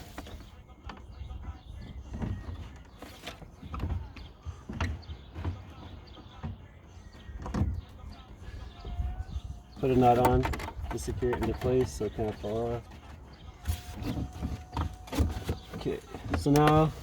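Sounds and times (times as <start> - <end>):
plastic housing knocking and rubbing: 1.8 - 8.0, 8.8 - 17.0.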